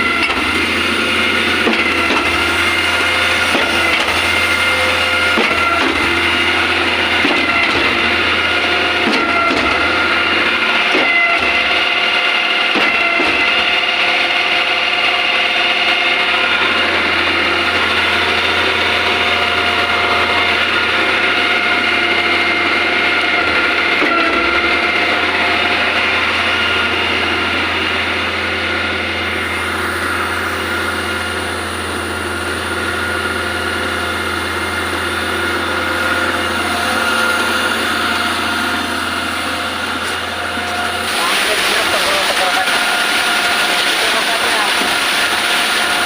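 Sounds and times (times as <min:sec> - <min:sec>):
truck engine humming: 0:00.0 - 0:46.0.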